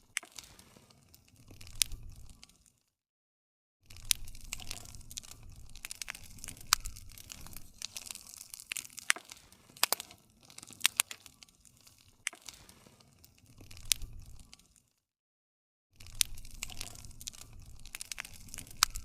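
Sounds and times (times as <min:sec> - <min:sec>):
low fire rumble: 0:00.0 - 0:02.6, 0:03.9 - 0:14.7, 0:16.0 - 0:19.0
campfire crackling and popping: 0:00.0 - 0:02.8, 0:03.9 - 0:14.9, 0:16.0 - 0:19.0.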